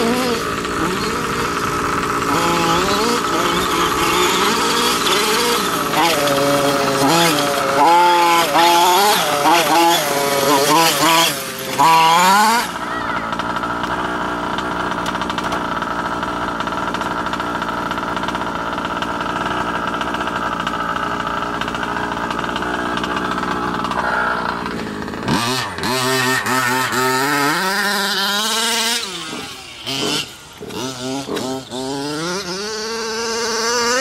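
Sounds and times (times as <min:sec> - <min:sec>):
small two-stroke engine revving: 0:00.0 - 0:34.0.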